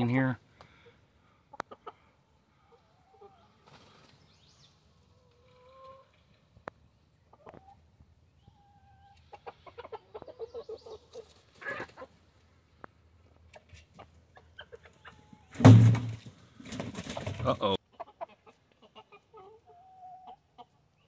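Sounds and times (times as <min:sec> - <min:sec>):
chickens clucking: 0:00.1 - 0:16.0, 0:16.6 - 0:21.0
chicken calls: 0:00.2 - 0:06.4, 0:07.1 - 0:12.4, 0:13.5 - 0:15.7, 0:16.7 - 0:21.0.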